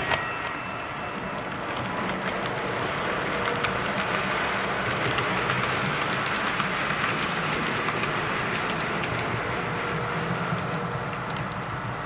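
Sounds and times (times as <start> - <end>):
model train whirring on rails: 0.0 - 12.0
rail joint clicks: 0.0 - 12.0.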